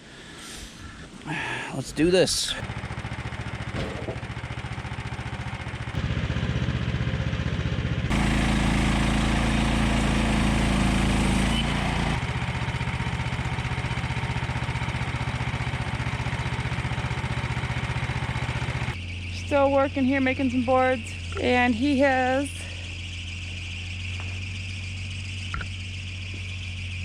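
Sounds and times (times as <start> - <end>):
small gas engine running: 2.4 - 27.0.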